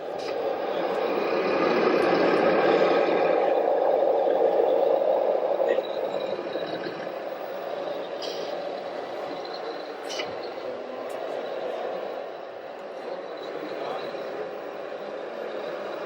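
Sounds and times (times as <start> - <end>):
model vehicle engine drone: 0.0 - 16.0.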